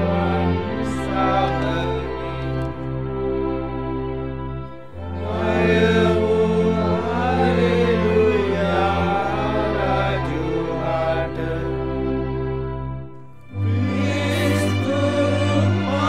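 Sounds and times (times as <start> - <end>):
choir singing a carol: 0.0 - 3.7, 4.7 - 16.0
held accompanying chords: 0.0 - 16.0.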